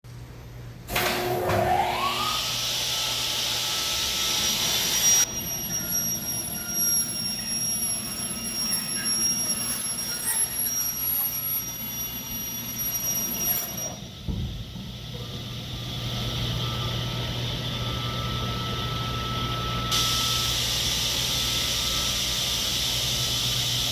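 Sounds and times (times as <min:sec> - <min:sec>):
circular saw whining: 0:01.4 - 0:23.9.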